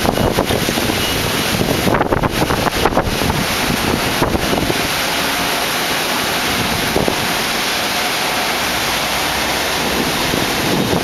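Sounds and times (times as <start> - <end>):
heavy rain pouring in wind: 0.0 - 11.0.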